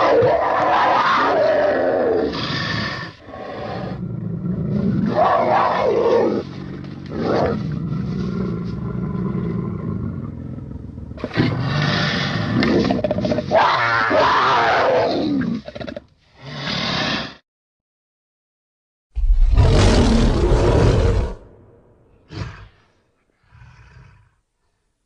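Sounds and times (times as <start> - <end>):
monster growls and roars: 0.0 - 17.4, 19.2 - 22.8.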